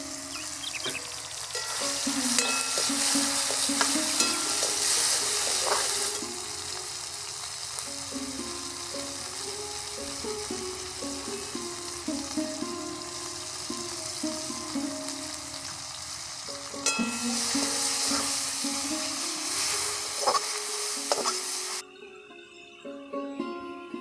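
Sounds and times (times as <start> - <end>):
vegetables sizzling in oil: 0.0 - 21.8
background music: 0.0 - 24.0.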